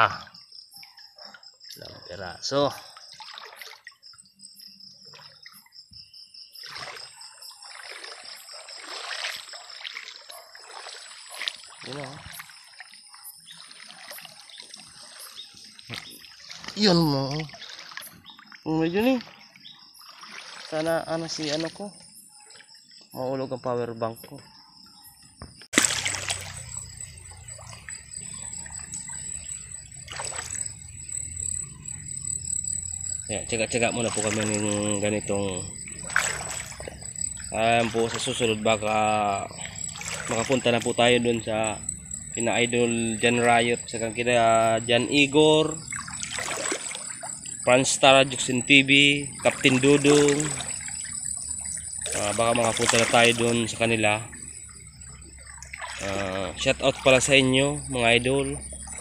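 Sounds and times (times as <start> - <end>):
stream water sloshing and trickling: 0.0 - 59.0.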